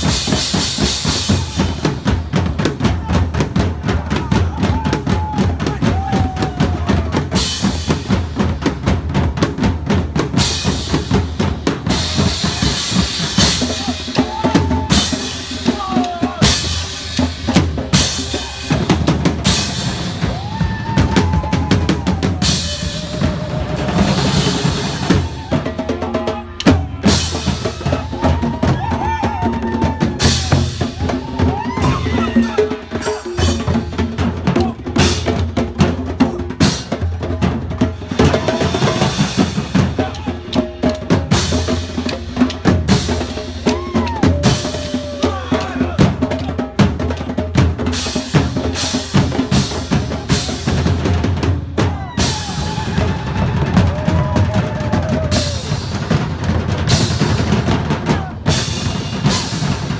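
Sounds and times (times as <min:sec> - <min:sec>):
drum-heavy music: 0:00.0 - 0:59.9.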